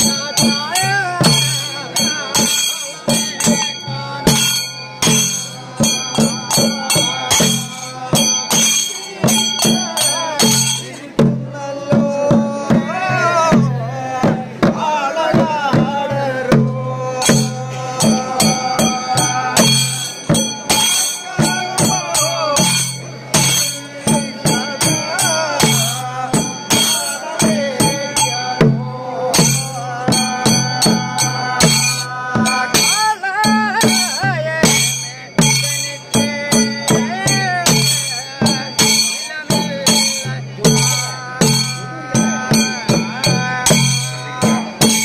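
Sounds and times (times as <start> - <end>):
drums and cymbals: 0.0 - 45.0.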